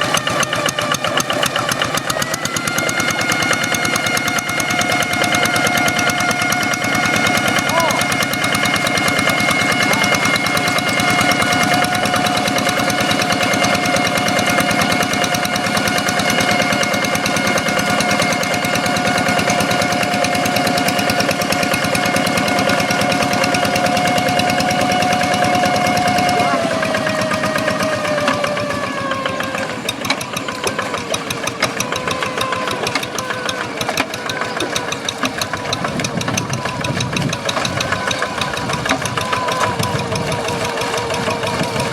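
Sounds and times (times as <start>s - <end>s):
diesel engine whining: 0.0s - 41.9s.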